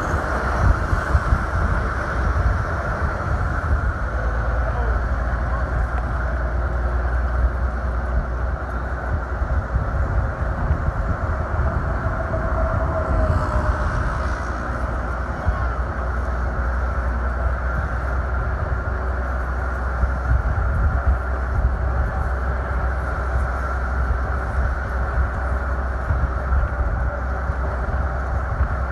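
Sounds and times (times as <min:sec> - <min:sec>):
car engine rumble: 0:00.0 - 0:28.9
road noise: 0:00.0 - 0:28.9.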